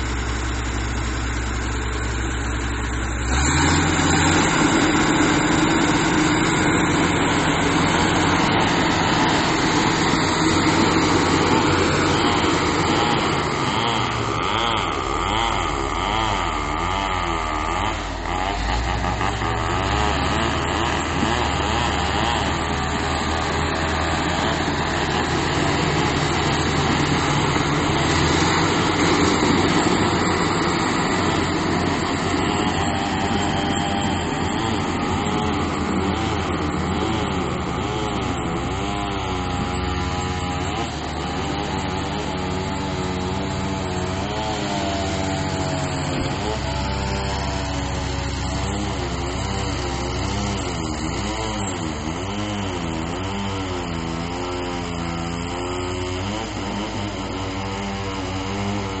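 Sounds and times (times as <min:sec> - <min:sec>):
bulldozer diesel engine running hard: 0:00.0 - 0:59.0.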